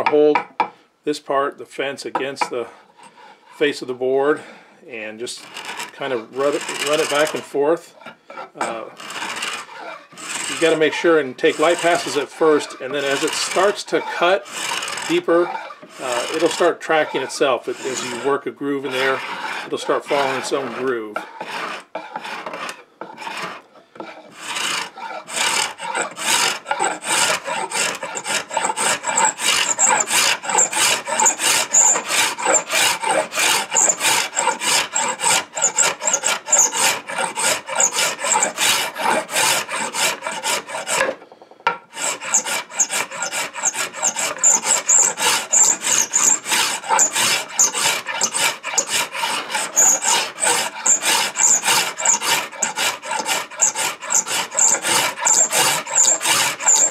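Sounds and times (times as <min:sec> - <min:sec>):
scraper rasping on wood: 0:05.4 - 0:07.5, 0:08.3 - 0:41.1, 0:41.9 - 0:56.9.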